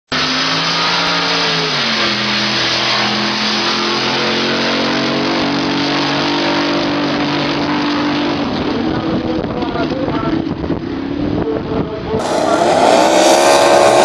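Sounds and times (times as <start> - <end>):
boat engine at high revs: 0.1 - 9.6, 12.2 - 14.0.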